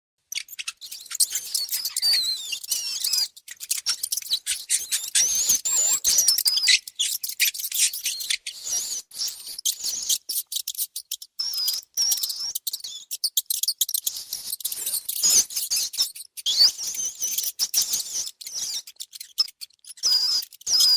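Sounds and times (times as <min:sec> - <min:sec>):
mice squeaking: 0:00.2 - 0:20.9
small clicks and scratches: 0:00.3 - 0:20.9.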